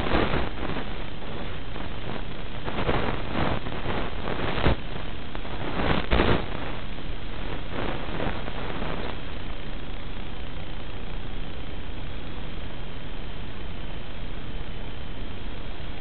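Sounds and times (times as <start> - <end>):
static-like hiss: 0.0 - 16.0.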